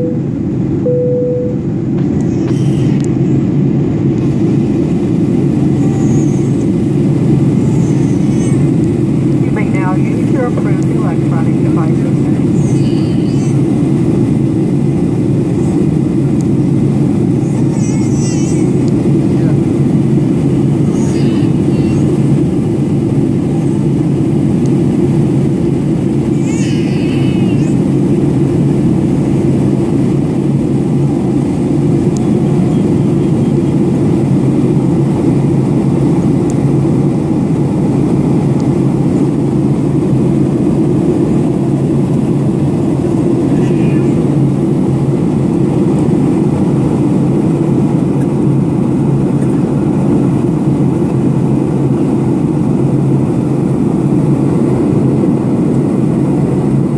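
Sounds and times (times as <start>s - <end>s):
airliner engines and airflow rumble: 0.0s - 56.9s
low hum: 0.0s - 56.9s.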